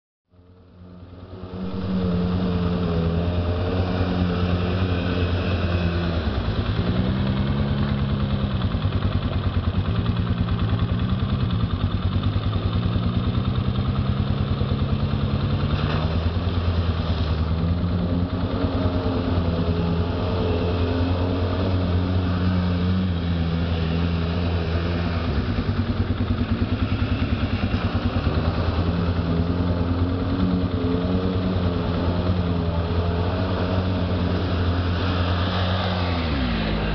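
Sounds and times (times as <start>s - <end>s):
atv engine revving: 0.6s - 36.9s
vehicle driving through mud water: 0.8s - 36.9s.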